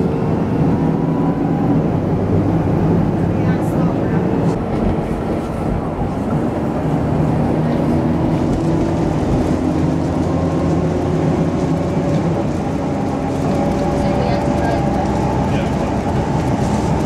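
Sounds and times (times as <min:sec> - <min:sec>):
road rumble: 0:00.0 - 0:17.0
vehicle engine hum: 0:00.0 - 0:17.0.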